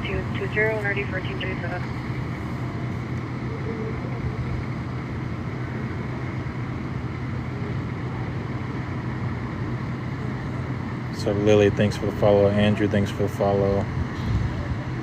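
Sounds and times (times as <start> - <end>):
street noise: 0.0 - 15.0
vehicle engine idling: 0.0 - 15.0.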